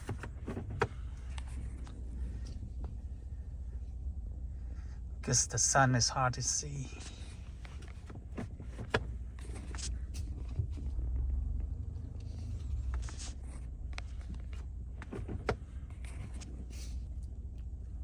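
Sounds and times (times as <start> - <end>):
vehicle engine low rumble: 0.0 - 18.0.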